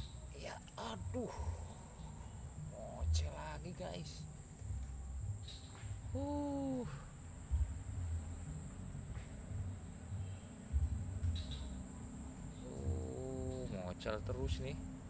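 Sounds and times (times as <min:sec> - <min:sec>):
crickets trilling: 0:00.0 - 0:15.0
low uneven rumble: 0:00.0 - 0:15.0.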